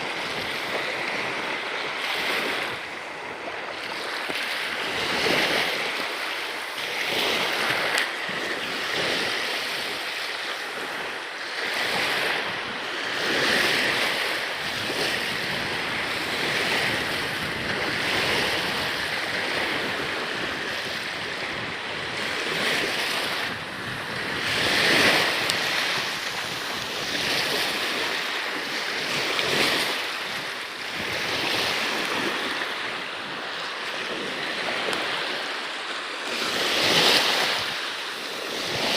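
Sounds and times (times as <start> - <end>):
water splashing along hull: 0.0 - 38.9
wind buffeting microphone: 0.0 - 38.9.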